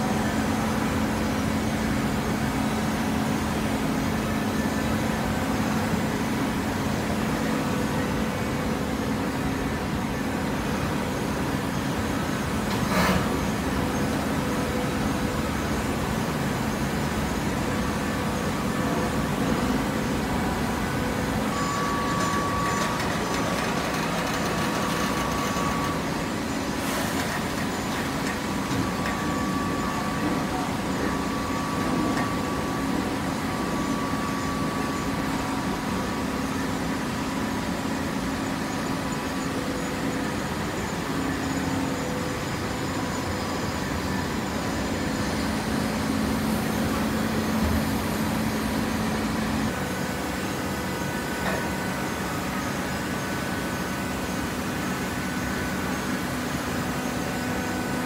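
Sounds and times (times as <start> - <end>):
baler machine hum: 0.0 - 58.0.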